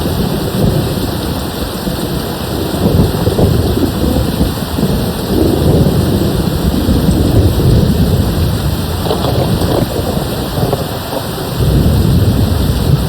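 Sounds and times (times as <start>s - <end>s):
heavy rain: 0.0s - 13.0s
low rolling thunder: 0.0s - 13.0s.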